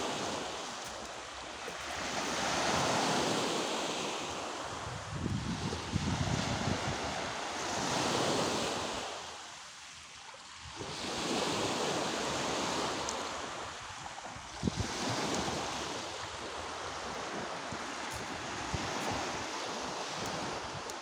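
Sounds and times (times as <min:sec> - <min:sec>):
waves washing up pebble beach: 0:00.0 - 0:21.0.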